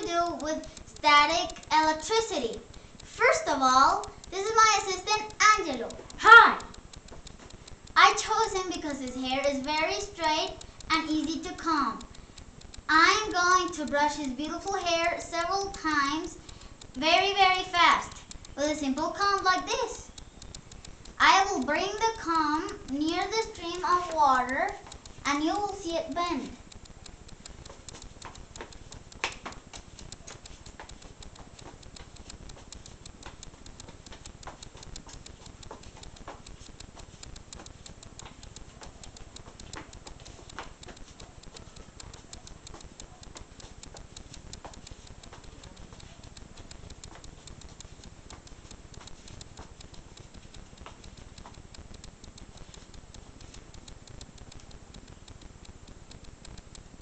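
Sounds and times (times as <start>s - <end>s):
comb crackling through hair: 0.0s - 57.0s.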